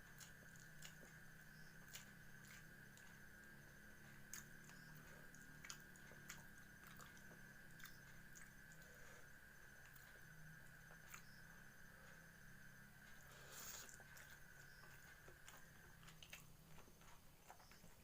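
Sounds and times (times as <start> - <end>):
chewing with mouth clicks: 0.0 - 12.4, 13.0 - 18.0
faint high whine: 0.0 - 18.0.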